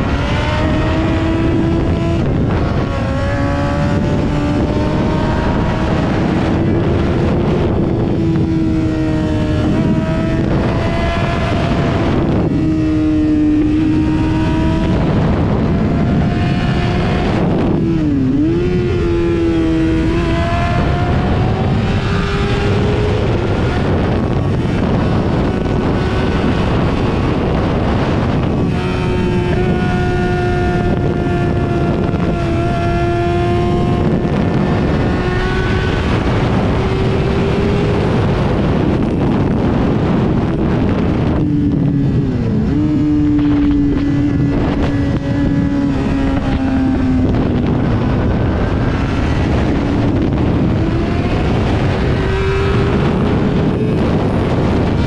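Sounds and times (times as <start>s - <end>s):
motorcycle engine revving high: 0.0s - 55.0s
wind noise on microphone: 0.0s - 55.0s.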